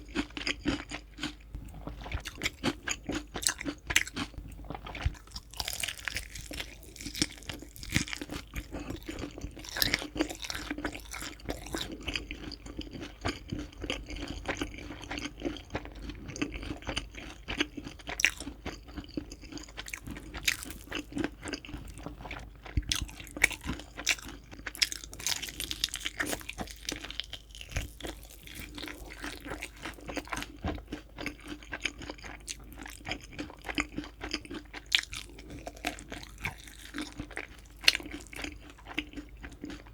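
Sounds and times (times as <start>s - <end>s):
chewing crispy fried chicken: 0.0s - 39.9s.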